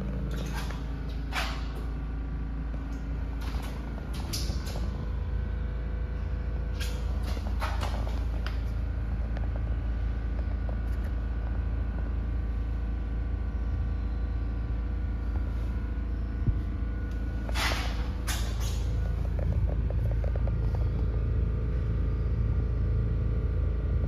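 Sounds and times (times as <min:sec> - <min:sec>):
faint hum: 0:00.0 - 0:24.0
steady low rumble: 0:00.0 - 0:24.0.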